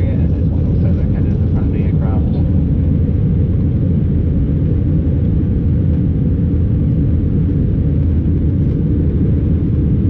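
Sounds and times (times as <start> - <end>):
airliner cabin engine rumble: 0.0 - 10.0.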